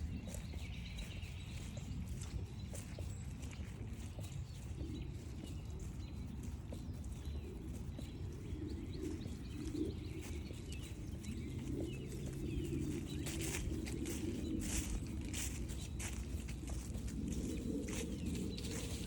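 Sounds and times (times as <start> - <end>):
footsteps on forest trail: 0.0 - 19.0.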